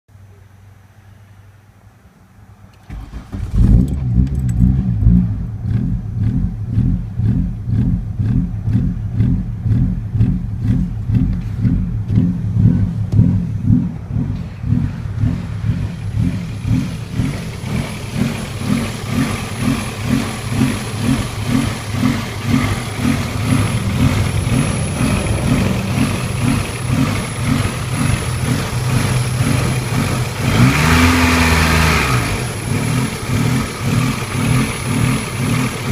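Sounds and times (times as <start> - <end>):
car engine idling roughly: 5.8 - 31.6, 32.2 - 35.9.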